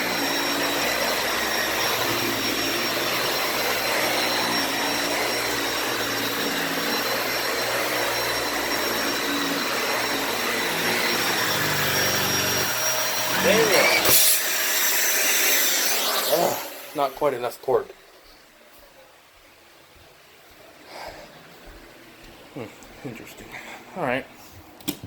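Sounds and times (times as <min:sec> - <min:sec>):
vacuum cleaner running: 0:00.0 - 0:18.3, 0:20.6 - 0:23.8.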